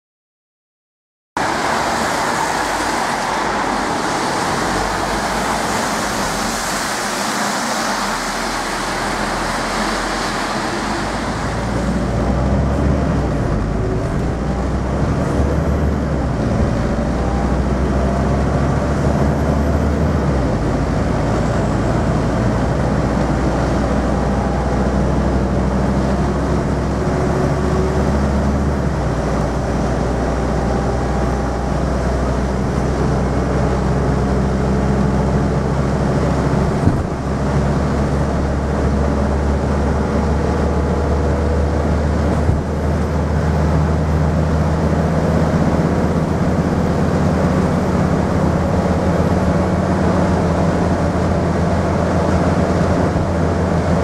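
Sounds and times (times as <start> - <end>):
bus diesel engine droning: 1.4 - 54.0
traffic on wet road: 1.4 - 54.0.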